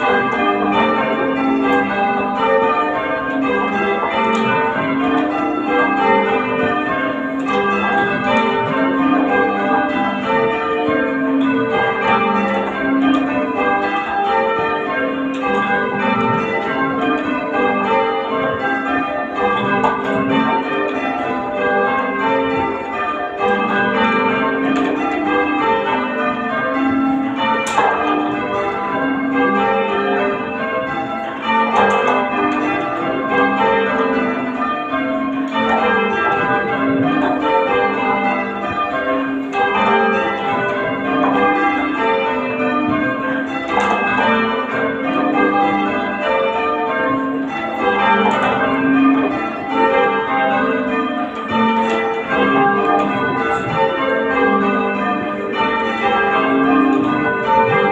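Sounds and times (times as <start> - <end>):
church bells ringing: 0.0 - 57.9.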